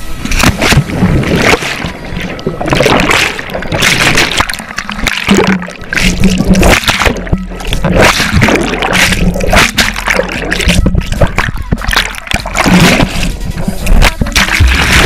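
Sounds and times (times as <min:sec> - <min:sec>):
water splashing and churning: 0:00.0 - 0:15.0
bubbles bursting underwater: 0:00.3 - 0:15.0.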